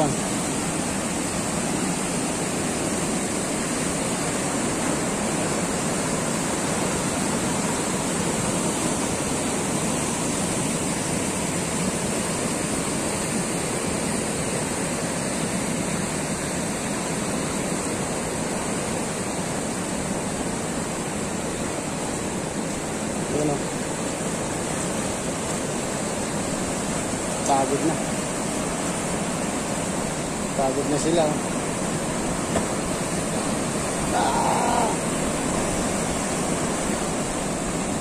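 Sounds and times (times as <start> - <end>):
rushing whitewater: 0.0 - 38.0.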